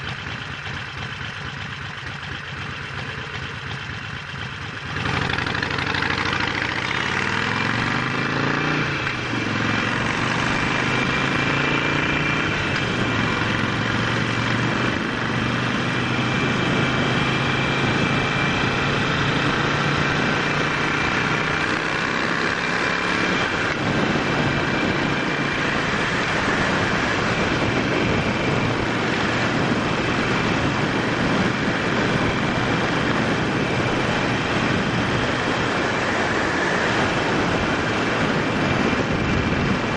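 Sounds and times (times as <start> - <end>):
motorcycle engine: 0.0 - 39.9
wind rush: 6.6 - 39.9.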